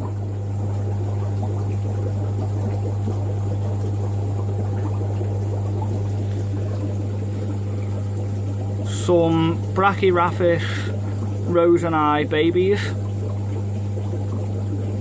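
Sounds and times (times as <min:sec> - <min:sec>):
bubbling trickling water: 0:00.0 - 0:15.0
electric pump hum: 0:00.0 - 0:15.0.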